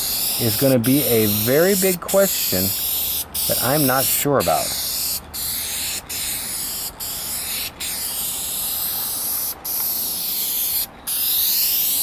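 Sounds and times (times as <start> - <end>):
aerosol spray can hissing: 0.0 - 12.0.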